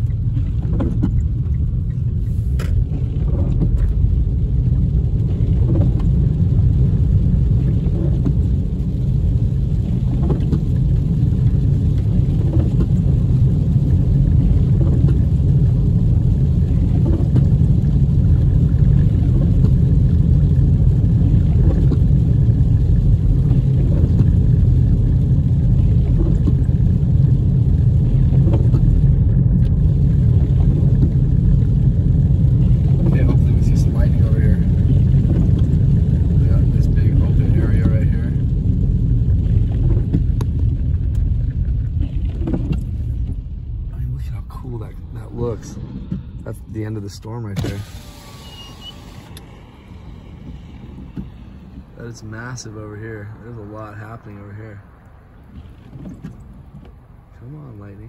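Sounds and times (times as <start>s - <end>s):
car driving on wet road: 0.0s - 58.0s.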